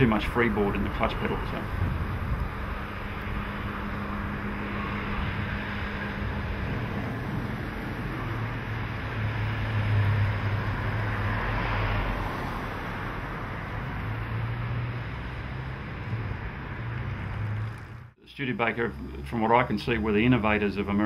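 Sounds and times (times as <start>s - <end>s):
passing traffic: 0.0s - 21.0s
car engine driving past: 1.2s - 18.2s.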